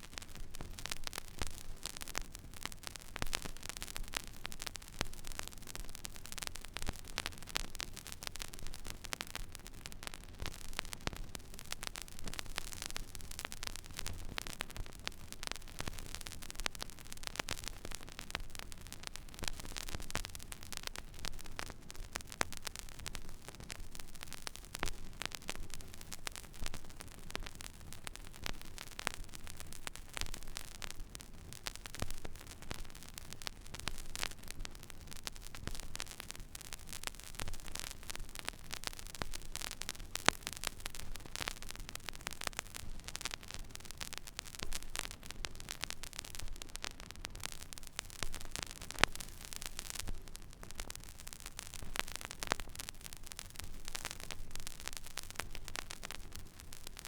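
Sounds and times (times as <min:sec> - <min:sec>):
vinyl record crackles and pops: 0:00.0 - 0:57.0.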